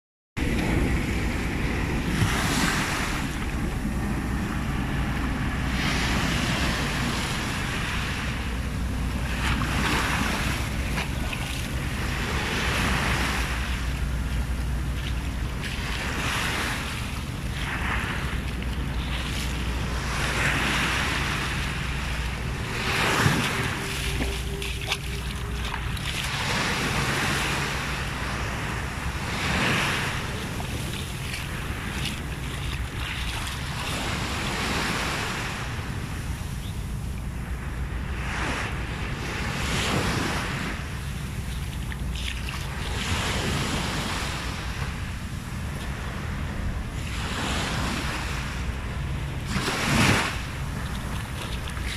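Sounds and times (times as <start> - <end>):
small waves breaking on beach: 0.4 - 51.9.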